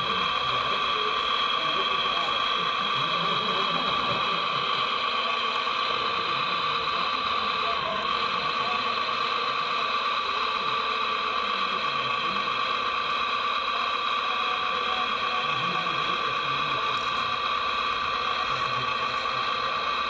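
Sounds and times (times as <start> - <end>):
hydraulic pump whine: 0.0 - 20.0.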